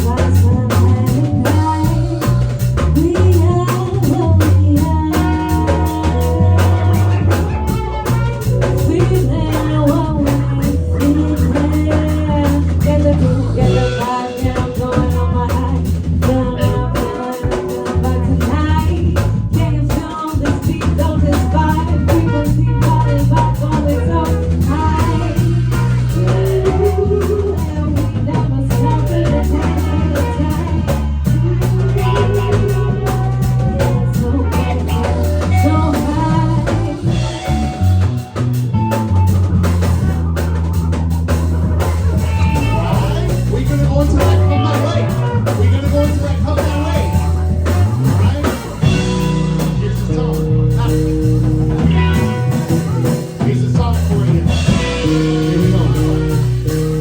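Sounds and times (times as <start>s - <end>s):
bass line: 0.0s - 57.0s
drum kit beat: 0.0s - 57.0s
guitar: 0.0s - 57.0s.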